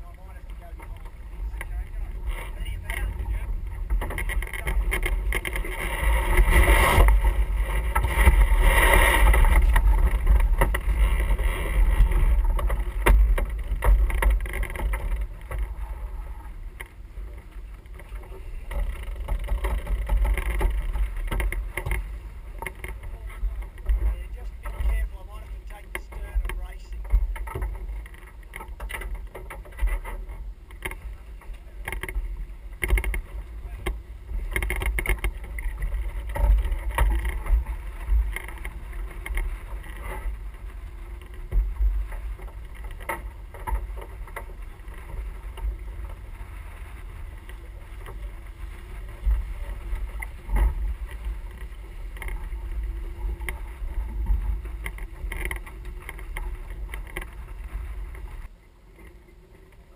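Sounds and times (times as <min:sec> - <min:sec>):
wind buffeting microphone: 0:00.0 - 0:58.5
water rushing along hull: 0:00.0 - 0:59.9.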